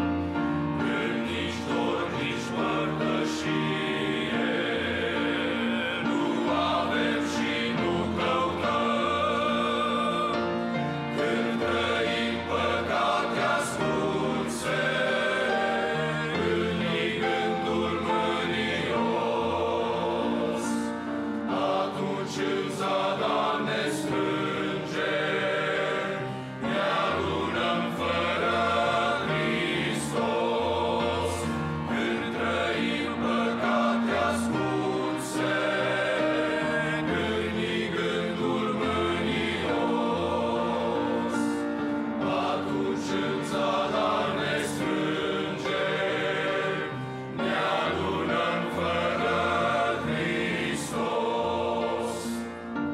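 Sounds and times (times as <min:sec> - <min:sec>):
men's choir singing a hymn: 0:00.0 - 0:52.9.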